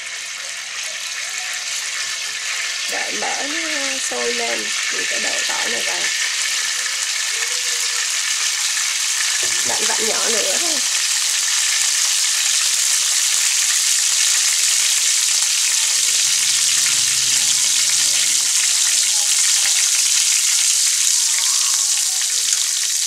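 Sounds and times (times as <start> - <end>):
garlic sizzling in oil: 0.0 - 23.0.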